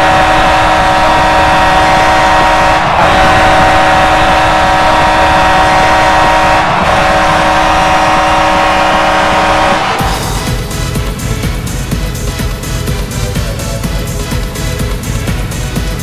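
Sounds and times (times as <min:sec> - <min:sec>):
deep goal horn blaring: 0:00.0 - 0:16.0.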